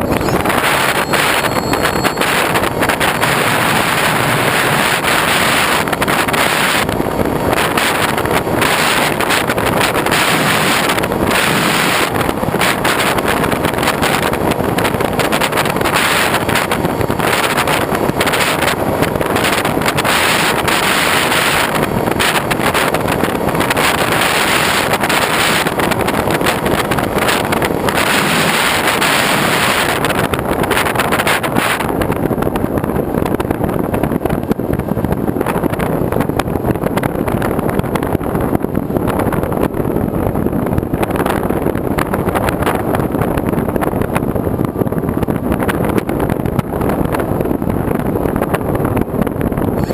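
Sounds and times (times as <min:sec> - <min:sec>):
vehicle running noise: 0:00.0 - 0:49.9
wind rushing on microphone: 0:00.0 - 0:49.9.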